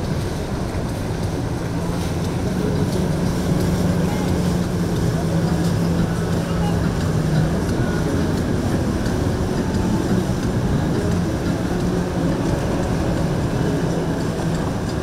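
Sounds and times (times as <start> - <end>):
motorboat engines rumbling: 0.0 - 15.0.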